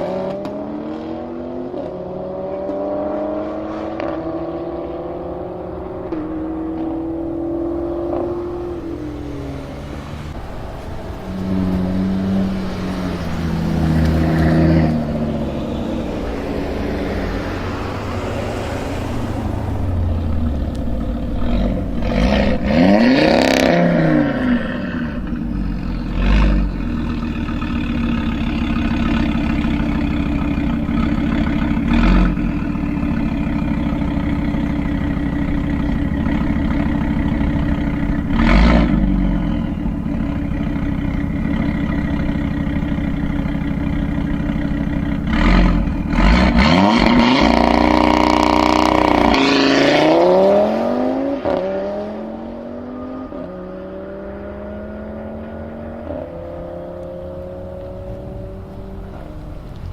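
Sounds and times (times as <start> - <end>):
car engine revving: 0.0 - 59.9
sharp exhaust bangs: 3.4 - 52.7.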